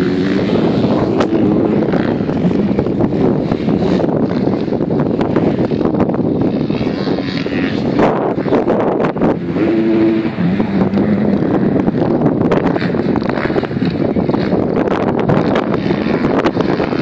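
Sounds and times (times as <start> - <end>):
distant motocross engines: 0.0 - 17.0
wind buffeting microphone: 0.0 - 17.0.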